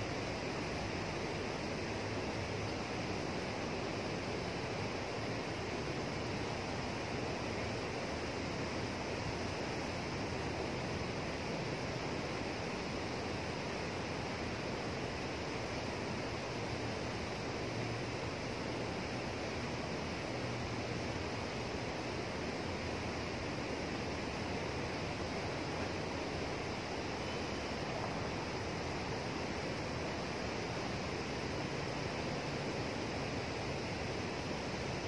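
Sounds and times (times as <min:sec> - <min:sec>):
water rushing below sluice gate: 0:00.0 - 0:35.0.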